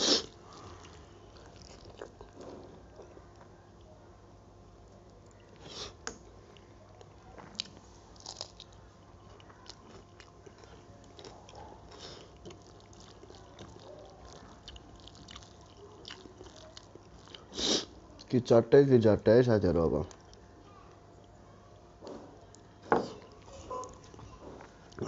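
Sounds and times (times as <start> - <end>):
person chewing food: 0.0 - 3.5, 5.1 - 18.3, 20.0 - 20.5, 21.2 - 25.0.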